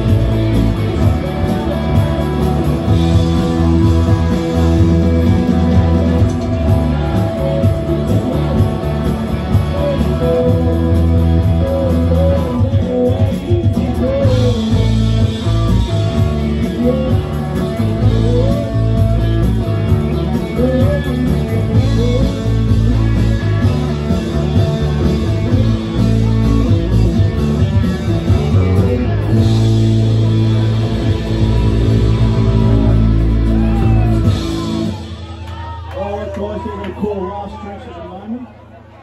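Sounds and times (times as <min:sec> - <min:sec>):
electric guitar bent notes: 0:00.0 - 0:35.8
country rock band playing live: 0:00.0 - 0:37.9.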